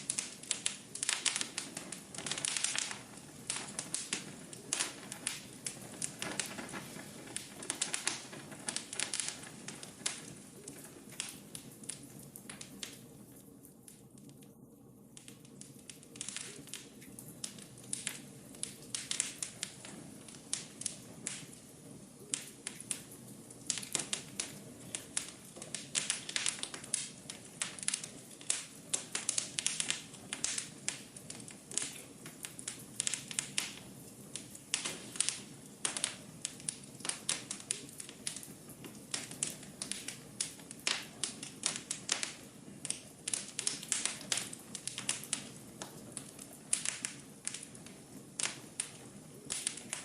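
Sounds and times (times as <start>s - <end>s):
fire popping and snapping: 0.0s - 50.0s
low rumble of flame: 0.0s - 50.0s.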